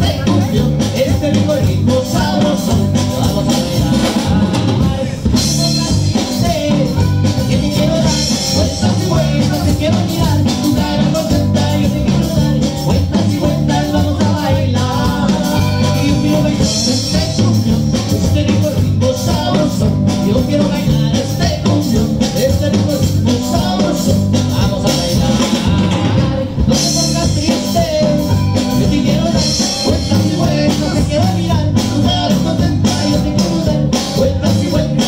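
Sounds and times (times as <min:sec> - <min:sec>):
live band with accordion: 0:00.0 - 0:35.0.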